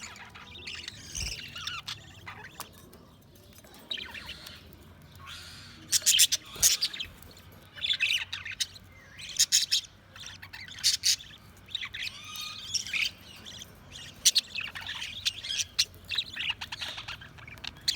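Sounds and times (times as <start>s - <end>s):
budgerigars chirping and warbling: 0.0s - 17.9s.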